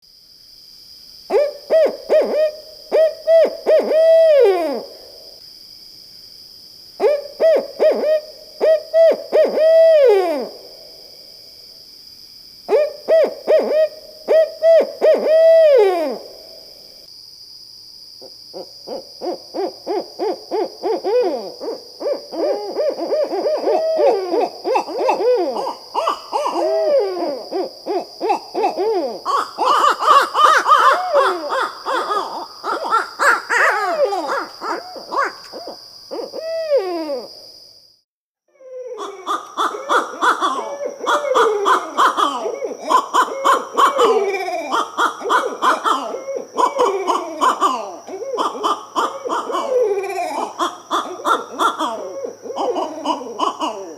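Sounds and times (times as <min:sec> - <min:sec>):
owls hooting and cackling: 0:01.3 - 0:05.0, 0:07.0 - 0:10.5, 0:12.7 - 0:16.3, 0:18.9 - 0:37.3, 0:38.5 - 0:53.9.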